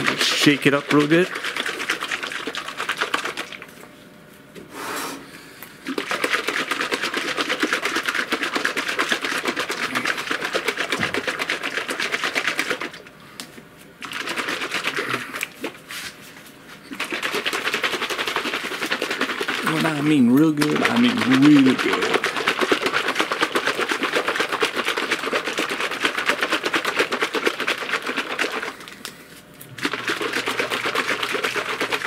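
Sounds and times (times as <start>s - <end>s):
liquid sloshing in shaken bottle: 0.0s - 3.8s, 5.8s - 13.1s, 14.0s - 28.9s, 29.7s - 32.0s.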